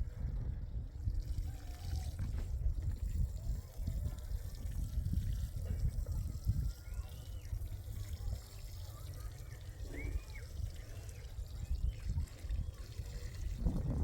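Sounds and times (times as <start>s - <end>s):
water trickling and pouring: 0.0s - 14.0s.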